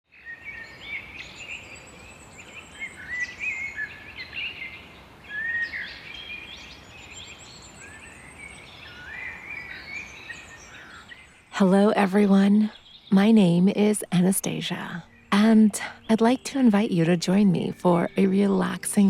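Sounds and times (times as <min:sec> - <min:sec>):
songbirds singing: 0:00.1 - 0:19.0
faint background hiss: 0:00.5 - 0:19.0.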